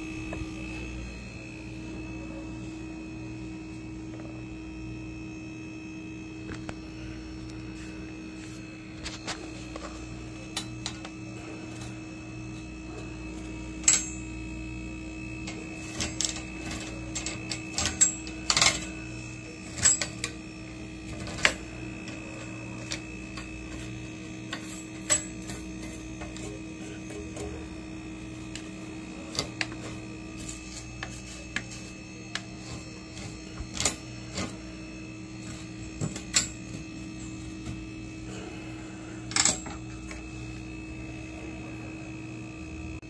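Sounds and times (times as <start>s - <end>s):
faint high whine: 0.0s - 43.0s
steady electrical hum: 0.0s - 43.0s.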